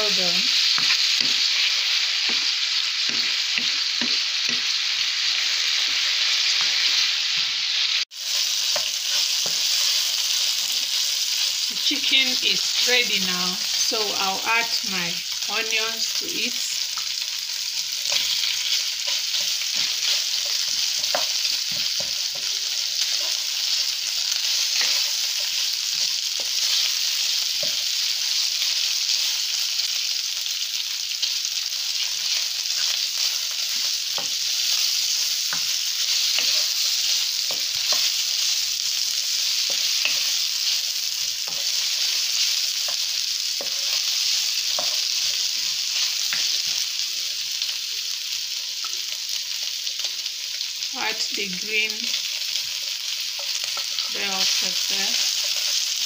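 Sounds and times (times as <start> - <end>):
chicken and onions sizzling in oil: 0.0 - 56.0.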